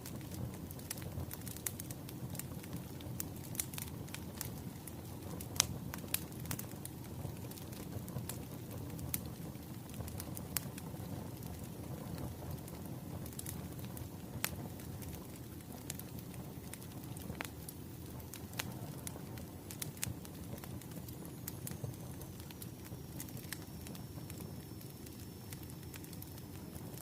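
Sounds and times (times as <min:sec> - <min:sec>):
firewood crackling and popping: 0:00.0 - 0:27.0.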